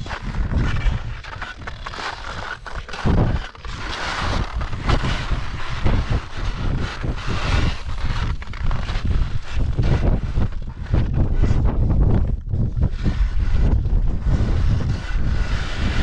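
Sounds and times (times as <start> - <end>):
skis scraping over snow: 0.0 - 16.0
wind buffeting microphone: 0.0 - 16.0.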